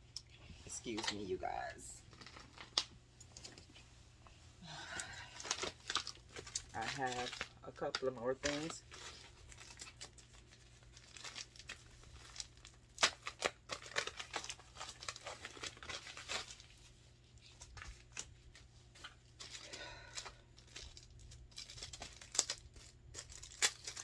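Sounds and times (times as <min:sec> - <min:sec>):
packaging crinkling: 0:00.7 - 0:03.8, 0:04.8 - 0:24.0.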